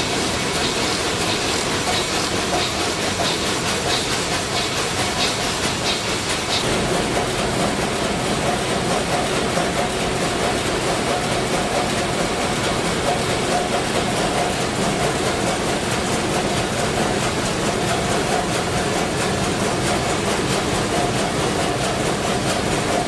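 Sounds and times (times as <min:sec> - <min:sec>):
rapid mechanical ticking: 0:00.0 - 0:23.0
ship diesel engine running: 0:00.0 - 0:23.0.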